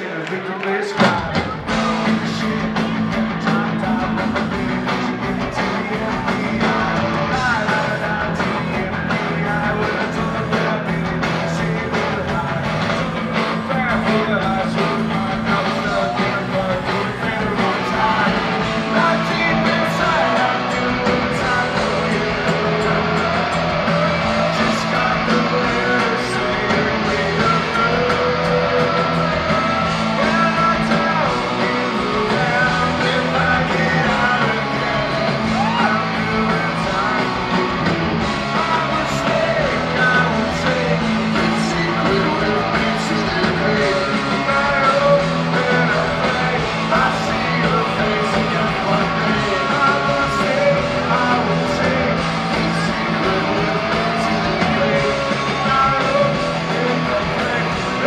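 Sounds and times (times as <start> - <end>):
man singing: 0.0 - 58.0
punk rock band playing live: 0.0 - 58.0.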